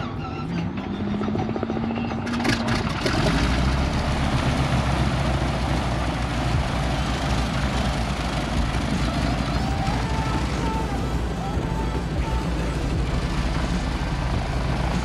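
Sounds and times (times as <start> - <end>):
piston aero engine rumbling: 0.0 - 15.0.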